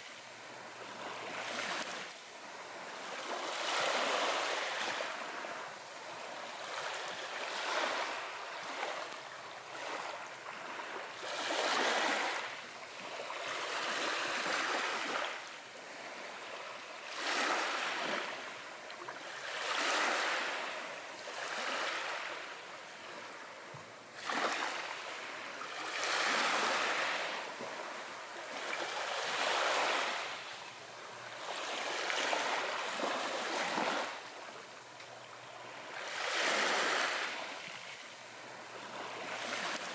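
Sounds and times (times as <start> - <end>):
ocean waves washing in: 0.0 - 18.8, 19.4 - 39.9.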